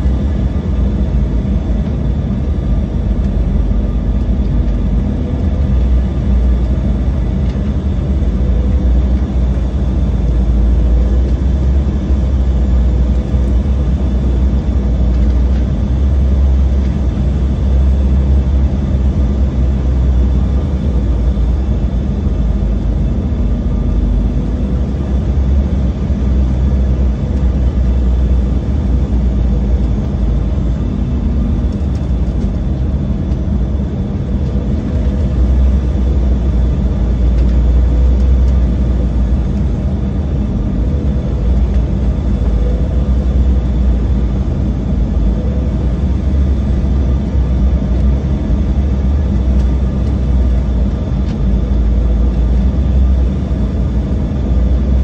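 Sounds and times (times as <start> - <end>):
faint steady whine: 0.0 - 55.0
jet engine cabin rumble: 0.0 - 55.0.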